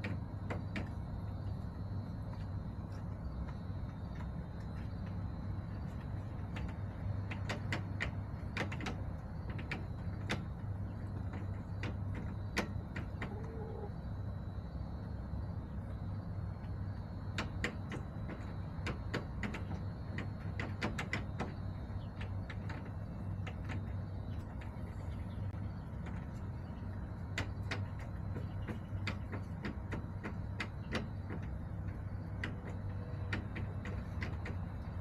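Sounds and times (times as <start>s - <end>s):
chickens pecking hard surface: 0.0s - 14.2s, 15.4s - 35.0s
steady low hum: 0.0s - 35.0s.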